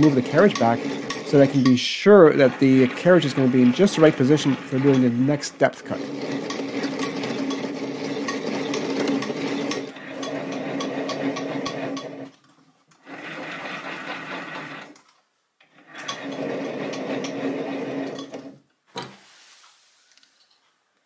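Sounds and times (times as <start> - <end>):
lathe gear train humming: 0.0 - 12.4, 13.0 - 15.0, 15.8 - 18.6.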